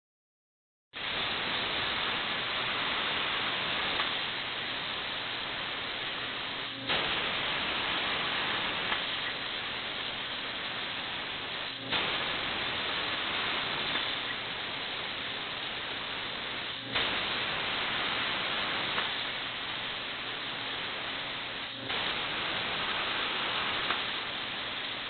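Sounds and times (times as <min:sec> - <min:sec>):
plasma torch arc hissing: 0:01.0 - 0:25.0.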